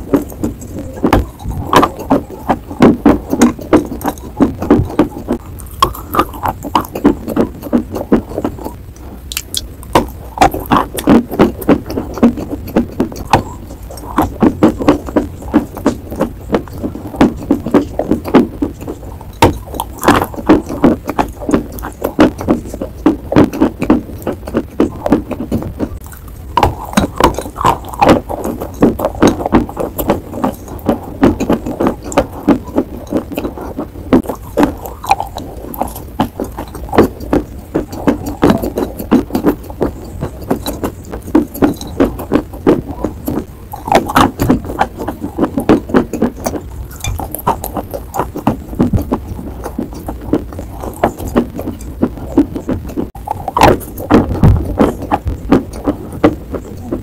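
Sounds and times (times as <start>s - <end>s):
person crunching hard chalk: 0.0s - 57.0s.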